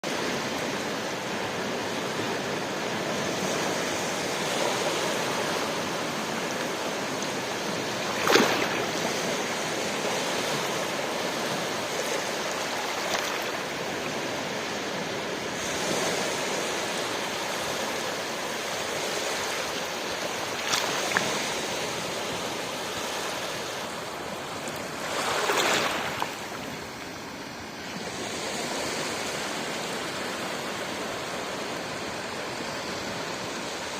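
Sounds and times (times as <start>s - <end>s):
ocean waves breaking: 0.0s - 33.9s
surf hiss: 0.0s - 33.9s.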